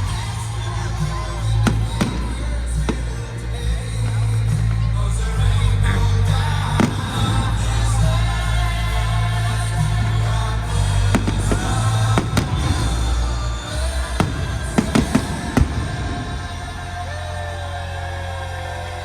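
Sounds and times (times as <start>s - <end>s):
fireworks bursting: 0.0s - 5.2s, 6.4s - 9.1s, 9.8s - 18.0s
loud music with heavy bass: 0.0s - 19.0s.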